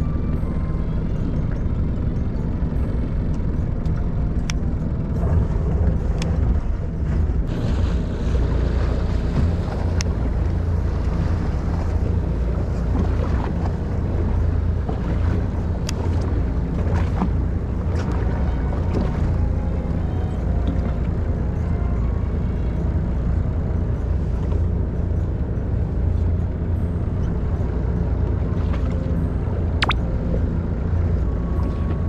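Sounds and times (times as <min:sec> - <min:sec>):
boat engine rumbling: 0:00.0 - 0:32.0.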